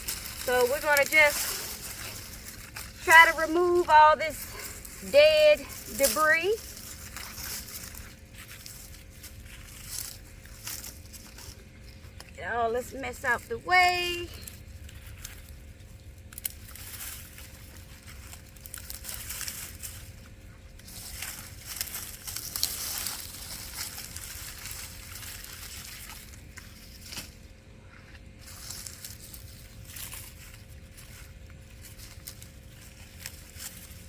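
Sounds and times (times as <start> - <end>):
dry vines rustling and crackling: 0.0 - 34.0.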